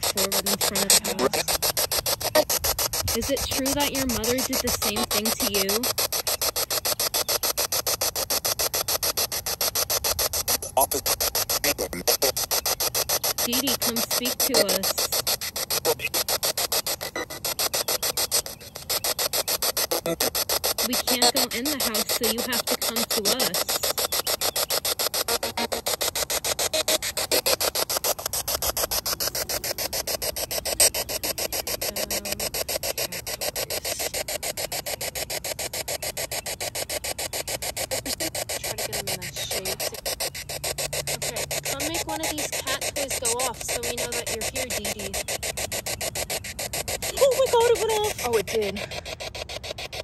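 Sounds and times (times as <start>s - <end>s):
radio static chopped into bursts: 0.0s - 50.0s.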